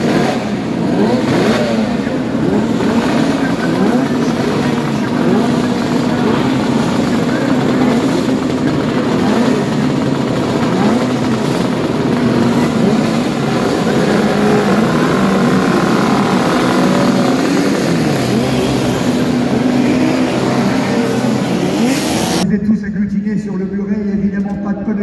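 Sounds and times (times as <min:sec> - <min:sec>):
motorcycles pulling away: 0:00.0 - 0:22.4
motorcycle engines revving: 0:00.0 - 0:22.5.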